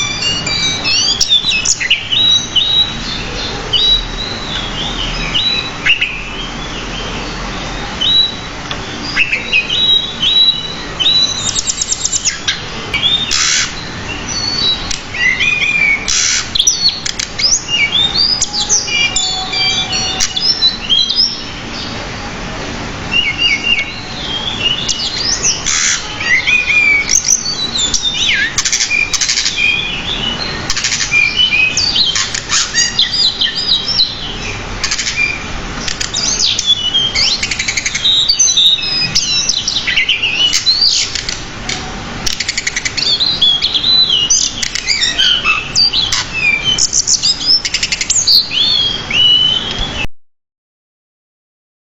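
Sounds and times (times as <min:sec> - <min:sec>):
bushchat singing whistles and trills: 0:00.0 - 0:50.1.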